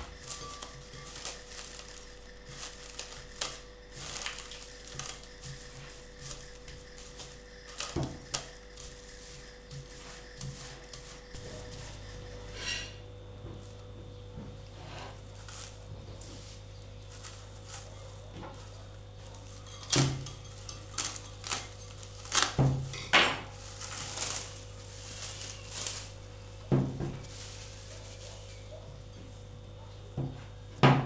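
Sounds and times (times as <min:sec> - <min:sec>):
cling film crinkling: 0:00.0 - 0:12.2, 0:15.2 - 0:28.9
low electrical hum: 0:00.0 - 0:31.0.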